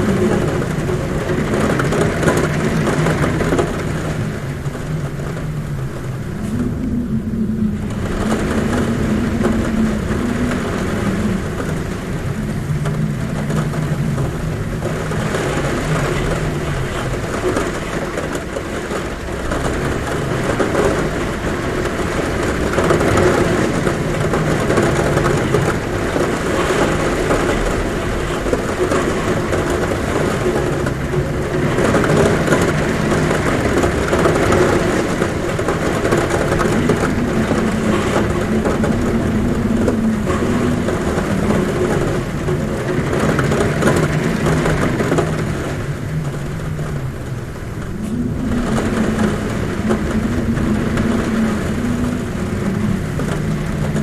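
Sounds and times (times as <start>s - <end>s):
heavy rain on a roof: 0.0s - 54.0s
low wind hum: 0.0s - 54.0s.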